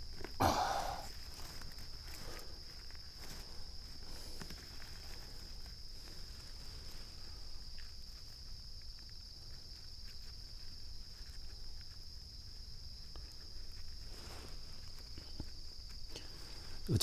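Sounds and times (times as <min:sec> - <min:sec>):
insect chirring: 0:00.0 - 0:17.0
rustling of dry pine needles: 0:00.0 - 0:17.0.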